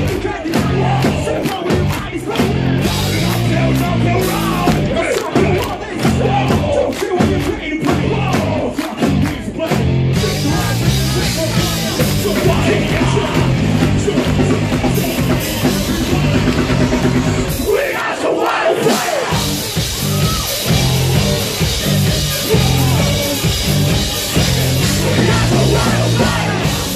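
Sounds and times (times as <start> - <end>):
metalcore band playing live: 0.0 - 26.9
vocalist on a microphone: 0.0 - 26.9.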